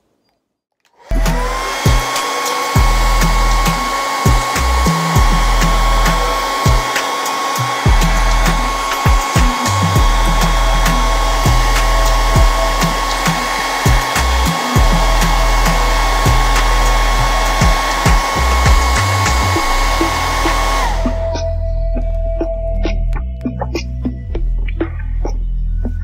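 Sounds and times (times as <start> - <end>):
hair dryer motor whine: 0.9 - 22.1.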